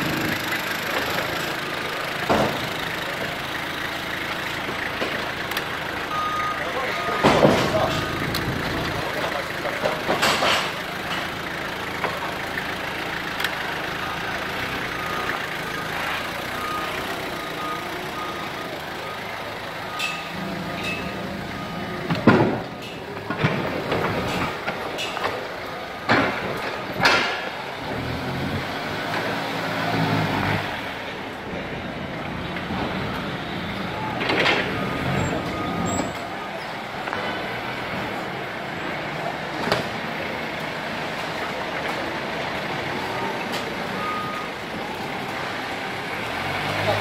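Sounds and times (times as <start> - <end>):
forklift engine rumbling: 0.0 - 47.0.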